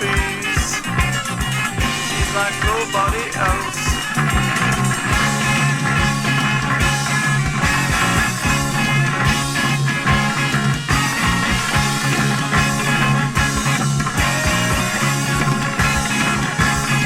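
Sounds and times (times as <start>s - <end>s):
instrumental post-punk rock: 0.0s - 17.0s.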